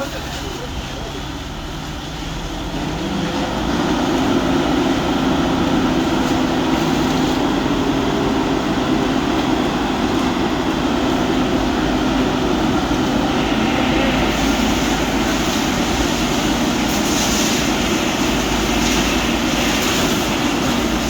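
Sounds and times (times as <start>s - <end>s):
fire truck engine droning: 0.0s - 21.0s.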